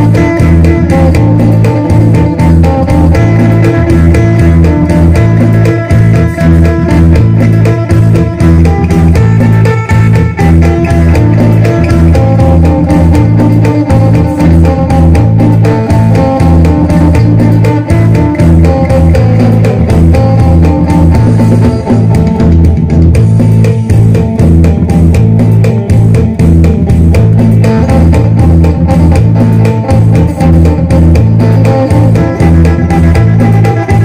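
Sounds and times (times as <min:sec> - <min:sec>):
fast plucked electric guitar melody: 0:00.0 - 0:34.0
repeating low bass pattern: 0:00.0 - 0:34.0.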